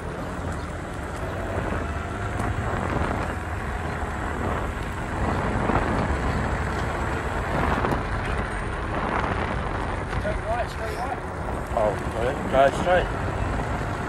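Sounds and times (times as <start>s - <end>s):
tyre and road rumble: 0.0s - 14.0s
wind buffeting microphone: 0.0s - 14.0s.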